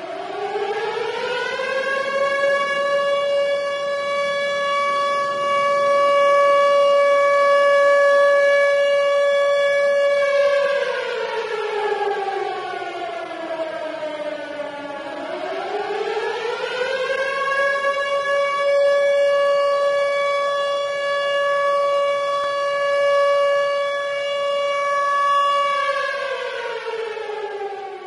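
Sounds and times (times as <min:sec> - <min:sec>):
warning siren wailing: 0:00.0 - 0:28.0.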